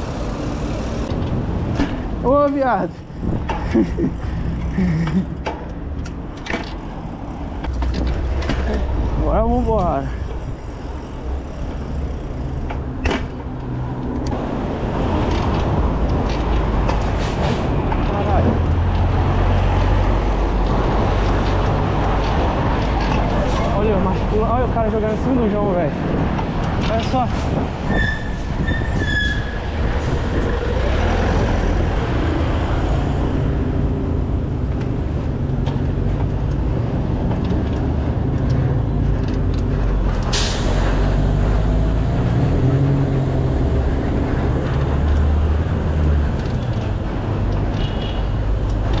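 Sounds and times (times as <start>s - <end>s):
city street traffic: 0.0s - 49.0s.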